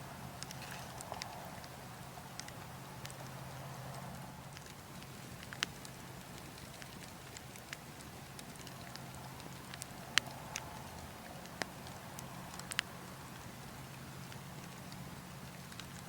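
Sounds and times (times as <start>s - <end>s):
logs crackling and popping: 0.0s - 16.0s
low rush of wind: 0.0s - 16.0s.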